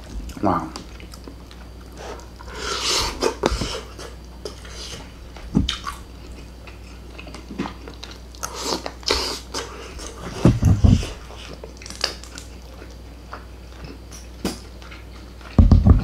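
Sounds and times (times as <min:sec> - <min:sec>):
chewing and wet mouth sounds: 0:00.1 - 0:02.5, 0:03.2 - 0:10.2, 0:11.0 - 0:15.6.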